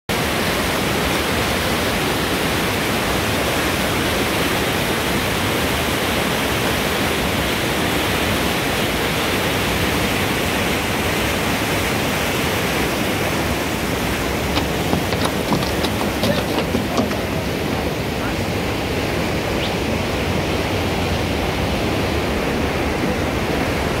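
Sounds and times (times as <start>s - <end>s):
river rushing over rocks: 0.1s - 24.0s.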